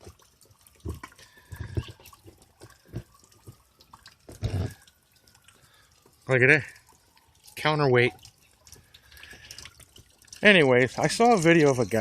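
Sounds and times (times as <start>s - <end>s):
rainwater dripping and splashing: 0.0s - 12.0s.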